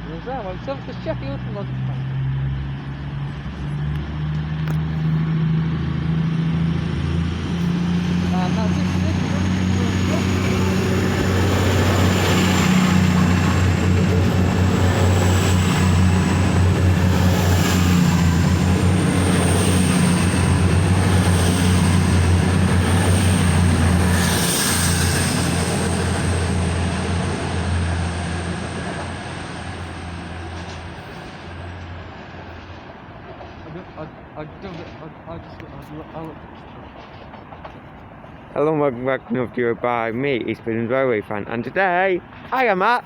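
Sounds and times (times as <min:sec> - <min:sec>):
diesel train engines humming: 0:00.0 - 0:43.0.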